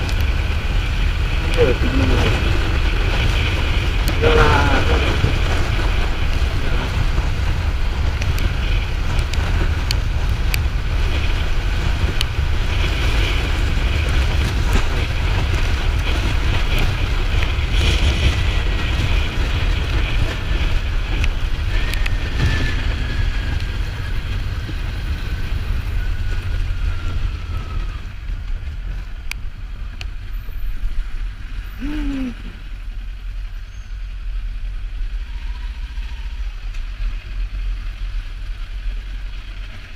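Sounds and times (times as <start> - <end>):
wind rush: 0.0 - 32.7
road noise: 0.0 - 39.9.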